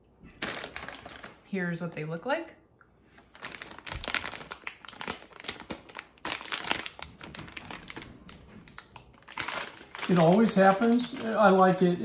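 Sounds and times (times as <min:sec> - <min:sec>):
plastic snack bag crinkling: 0:00.3 - 0:01.5, 0:03.2 - 0:12.0.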